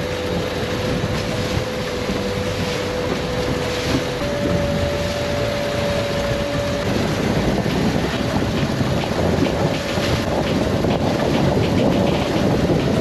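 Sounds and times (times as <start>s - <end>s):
motorboat engine whine: 0.0s - 13.0s
water rushing and splashing: 0.0s - 13.0s
wind buffeting microphone: 0.0s - 13.0s.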